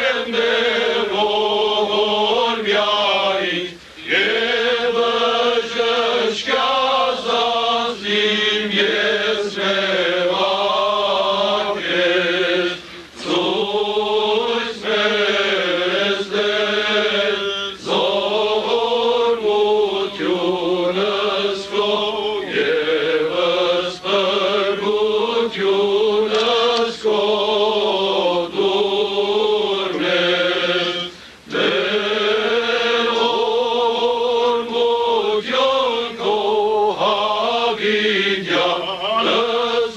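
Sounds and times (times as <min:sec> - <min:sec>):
men chanting: 0:00.0 - 0:39.9.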